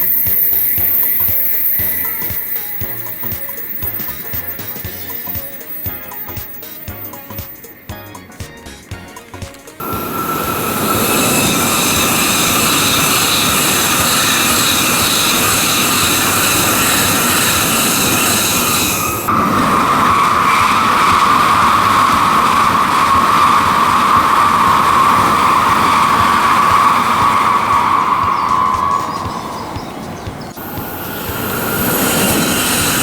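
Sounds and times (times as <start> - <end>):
high whine: 0.0 - 33.0
high-speed train passing: 0.0 - 33.0.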